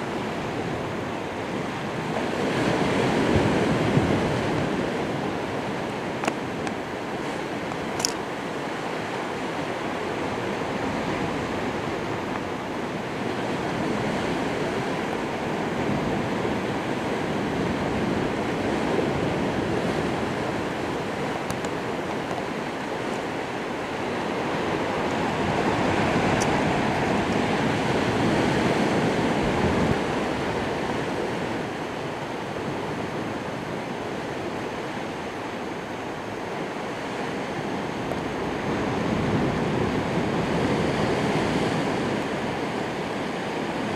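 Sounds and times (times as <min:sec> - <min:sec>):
rough sea and surf: 0:00.0 - 0:43.9
wind: 0:00.0 - 0:43.9.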